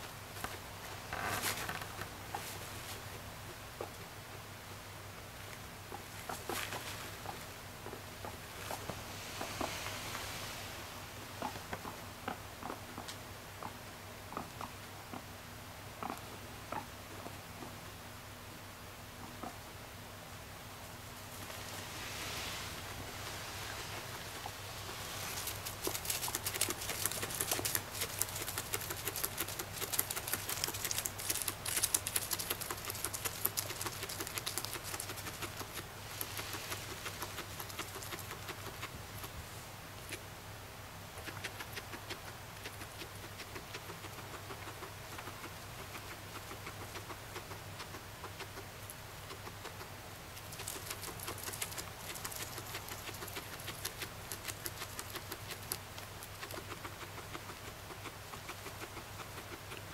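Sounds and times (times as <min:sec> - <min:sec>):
guinea pig crunching hay: 0:00.0 - 0:04.5, 0:05.2 - 0:15.3, 0:16.0 - 0:17.7, 0:21.2 - 0:40.4, 0:41.1 - 0:59.9.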